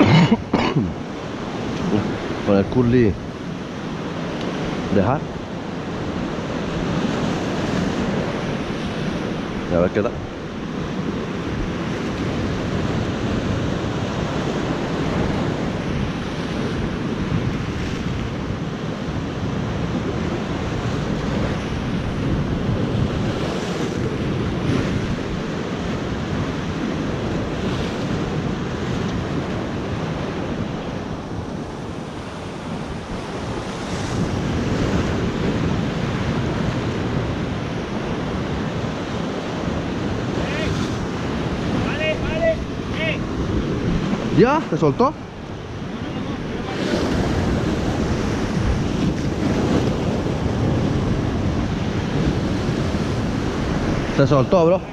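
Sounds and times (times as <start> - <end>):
surf breaking on rocky shore: 0.0 - 54.9
wind buffeting microphone: 0.0 - 54.9.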